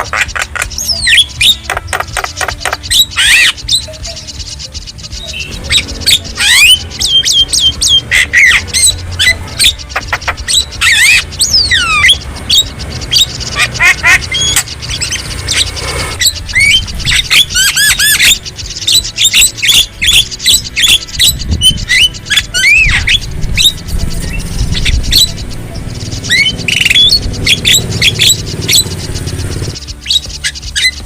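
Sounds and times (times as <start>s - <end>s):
myna calling and singing: 0.0s - 31.0s
steady low rumble: 3.1s - 31.0s.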